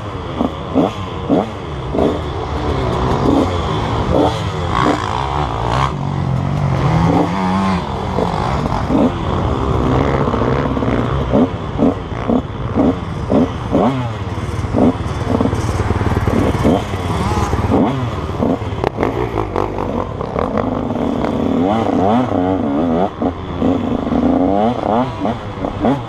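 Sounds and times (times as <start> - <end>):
motocross engine revving: 0.0 - 26.0.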